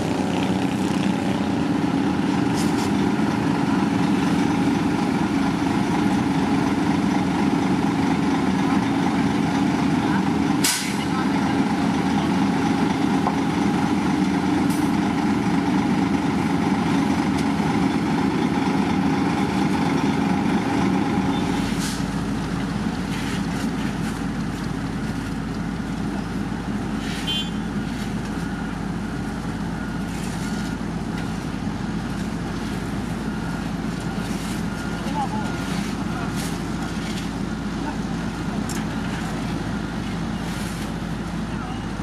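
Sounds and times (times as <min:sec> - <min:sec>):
heavy machinery engines running: 0:00.0 - 0:42.0.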